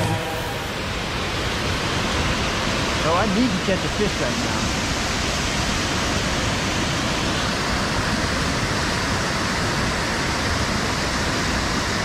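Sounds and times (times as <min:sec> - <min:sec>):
fast-flowing river water: 0:00.0 - 0:12.0.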